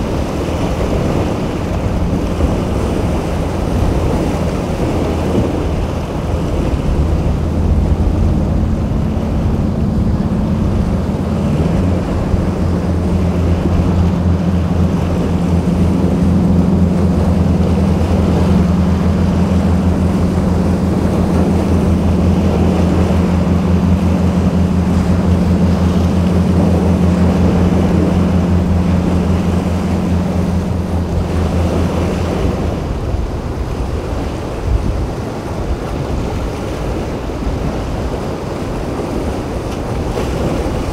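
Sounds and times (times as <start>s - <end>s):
boat engines running: 0.0s - 40.9s
waves breaking: 0.0s - 40.9s
wind buffeting microphone: 0.0s - 40.9s.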